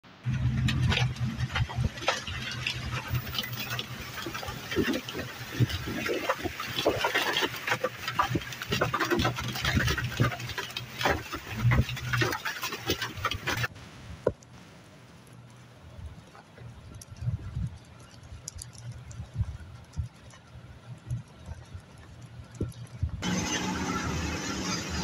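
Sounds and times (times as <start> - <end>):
hailstones pattering on hard surfaces: 0.6 - 13.7, 14.4 - 23.3.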